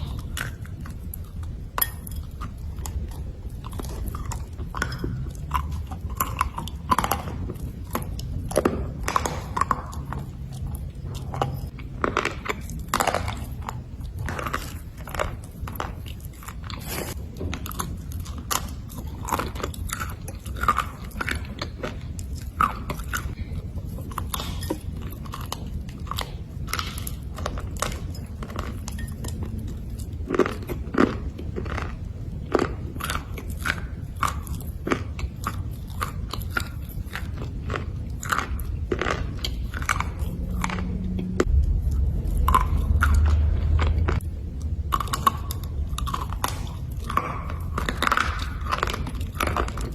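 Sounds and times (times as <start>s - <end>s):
crunching and chewing: 0.0s - 49.9s
low hum: 0.0s - 49.9s.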